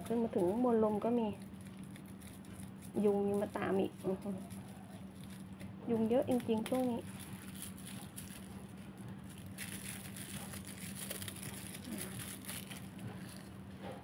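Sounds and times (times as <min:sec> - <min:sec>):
rustling and handling noise: 0:00.0 - 0:14.0
steady low hum: 0:00.0 - 0:14.0.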